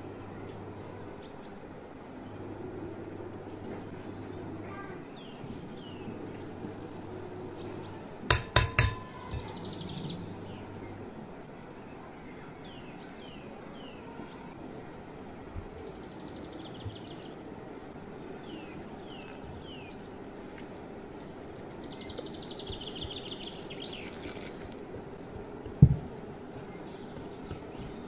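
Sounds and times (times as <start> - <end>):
songbird singing: 0.0 - 11.2, 11.8 - 20.4, 21.0 - 24.6, 26.2 - 28.0
steady low hum: 0.0 - 28.0.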